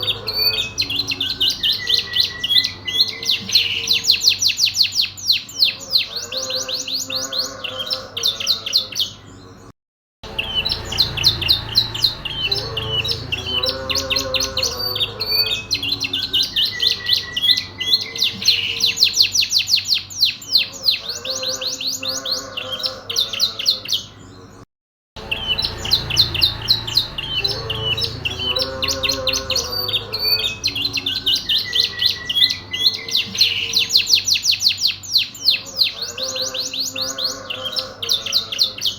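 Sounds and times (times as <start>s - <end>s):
canary singing trills: 0.0s - 24.6s, 25.2s - 38.9s.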